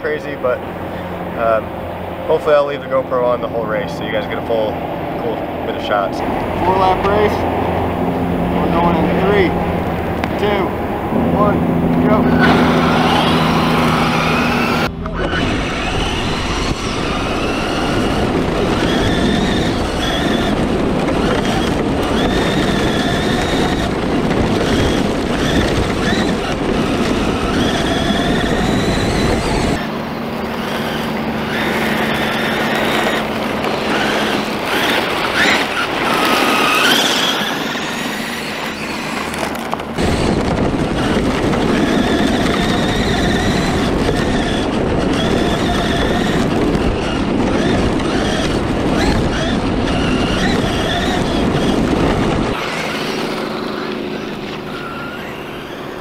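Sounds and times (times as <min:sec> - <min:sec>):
electric motor whine: 0:00.0 - 0:56.0
gravel crunching: 0:00.0 - 0:56.0
wind and gravel rumble: 0:00.0 - 0:56.0.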